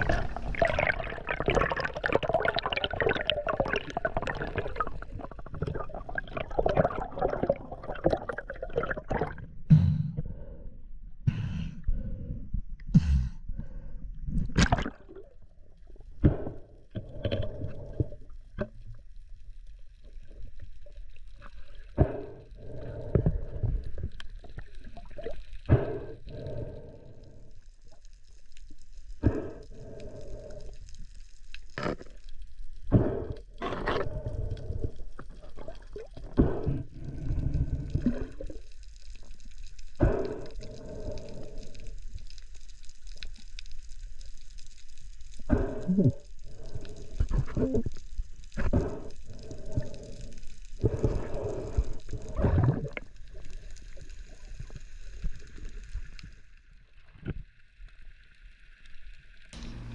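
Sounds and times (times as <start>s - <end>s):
underwater bubbling and gurgling: 0.0s - 10.6s, 13.5s - 59.9s.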